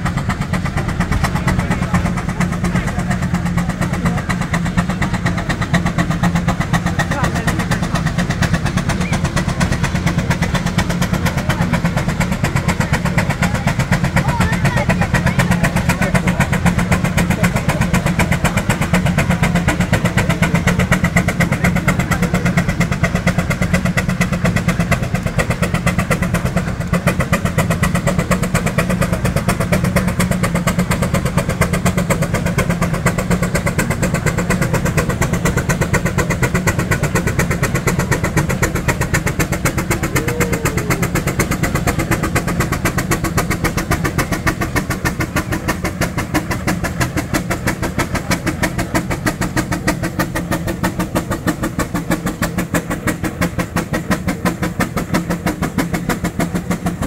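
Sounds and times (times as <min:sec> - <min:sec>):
steam engine chuffing: 0:00.0 - 0:57.0.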